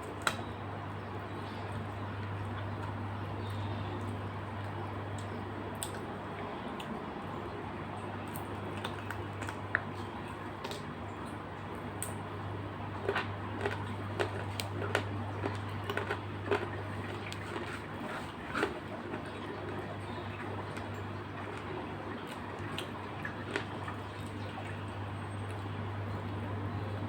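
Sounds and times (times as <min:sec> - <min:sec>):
steady low hum: 0:00.0 - 0:27.0
eating clicks and crunches: 0:01.2 - 0:07.1, 0:08.2 - 0:24.8.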